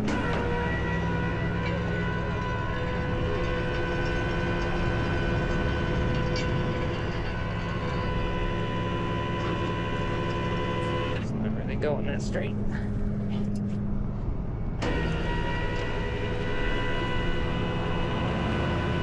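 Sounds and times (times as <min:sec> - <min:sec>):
truck engine idling with whine: 0:00.0 - 0:19.0.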